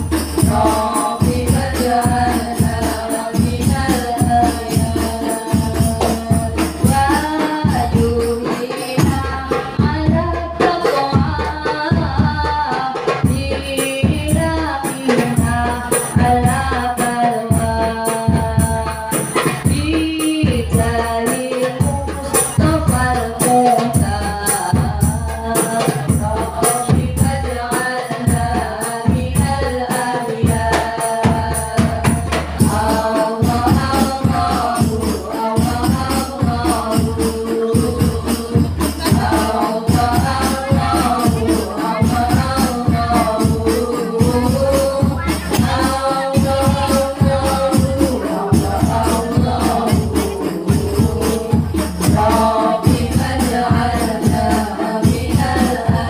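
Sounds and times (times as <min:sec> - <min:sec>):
frame drums beating: 0:00.0 - 0:56.0
women's group singing: 0:00.0 - 0:56.0.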